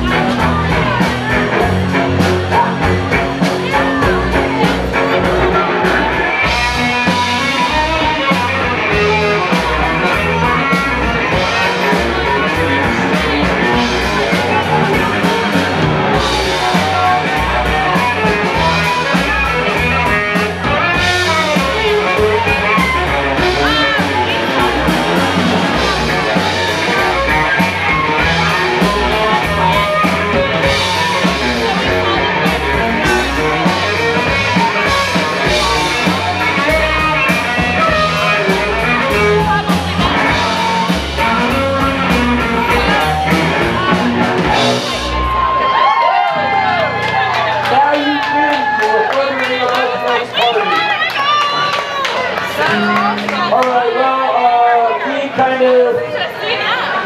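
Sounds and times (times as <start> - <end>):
drum kit beat: 0.0 - 47.6
electric bass guitar: 0.0 - 57.0.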